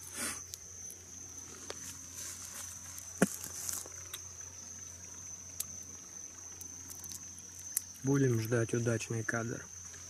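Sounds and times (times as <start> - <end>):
high-pitched insect trill: 0.0 - 10.0.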